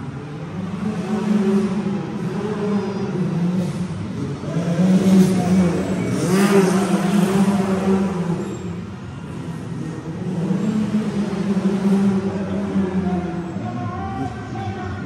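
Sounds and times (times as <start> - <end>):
racing engine revving: 0.0 - 13.6.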